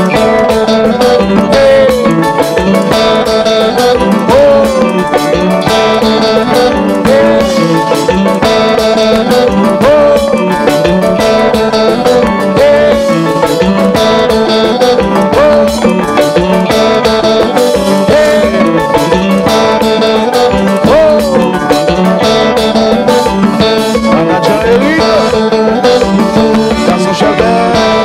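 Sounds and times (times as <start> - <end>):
electric guitar riff with bent note: 0.0 - 28.0
live band dance groove: 0.0 - 28.0.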